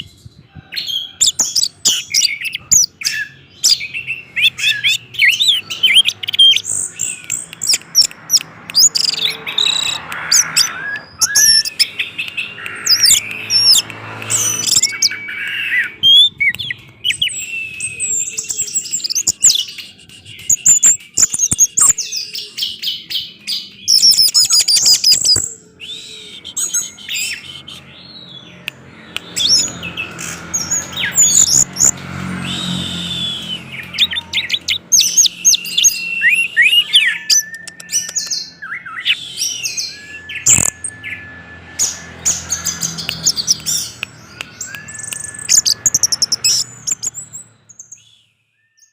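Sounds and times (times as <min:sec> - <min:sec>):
thrush singing chirps and trills: 0:00.0 - 0:48.9.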